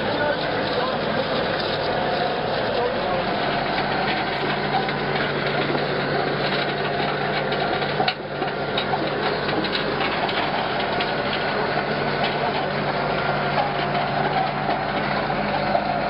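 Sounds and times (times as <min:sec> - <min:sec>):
harvester engine hum: 0:00.0 - 0:16.0
rattling conveyor clatter: 0:00.0 - 0:16.0.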